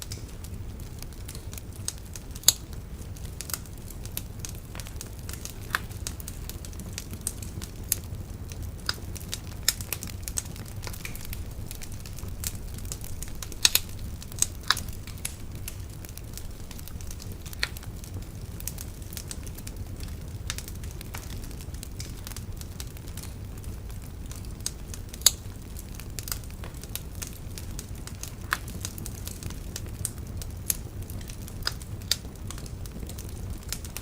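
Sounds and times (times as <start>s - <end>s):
bonfire pops and crackles: 0.0s - 34.0s
low rumble of flames: 0.0s - 34.0s.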